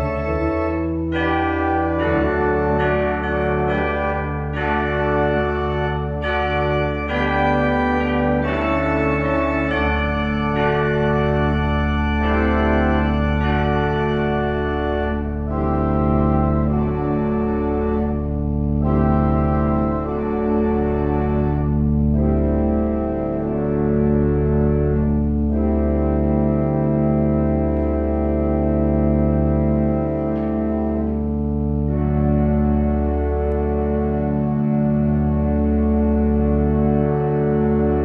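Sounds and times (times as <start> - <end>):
organ playing slow chords: 0.0 - 38.0.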